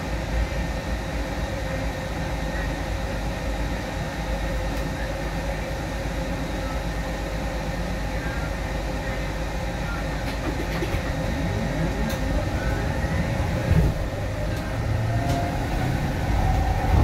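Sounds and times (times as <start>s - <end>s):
low road rumble in a vehicle cabin: 0.0s - 17.0s.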